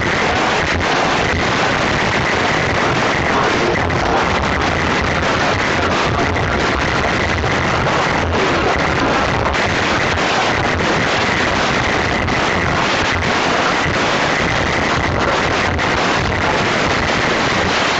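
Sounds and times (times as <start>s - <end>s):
distorted loud car audio music: 0.0s - 17.9s.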